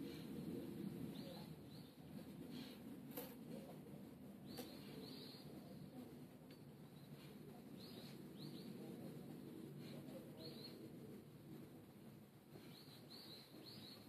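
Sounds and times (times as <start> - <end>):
low steady background noise: 0.0 - 14.0.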